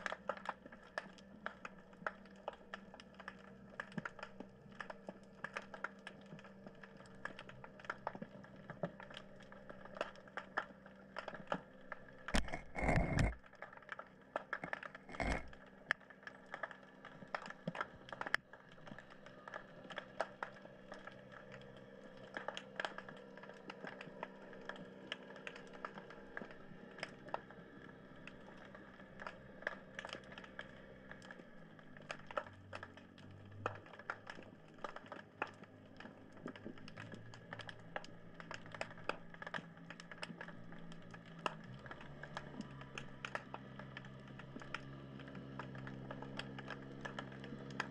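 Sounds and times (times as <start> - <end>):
steady mechanical hum: 0.0 - 47.9
underwater clicking crackle: 0.0 - 47.9.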